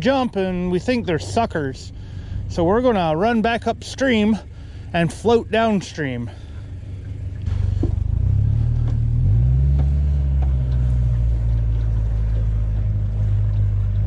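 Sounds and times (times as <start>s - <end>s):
jet boat engine running: 0.0s - 14.0s.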